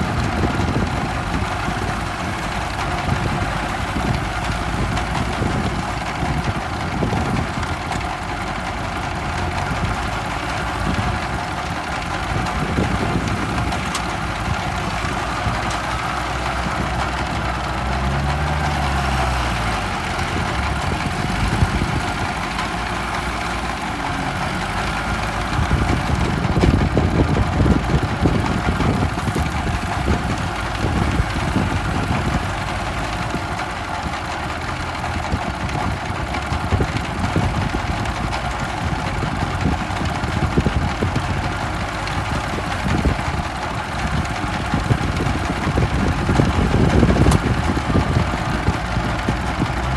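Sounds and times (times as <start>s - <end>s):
tractor engine chugging: 0.0s - 49.9s.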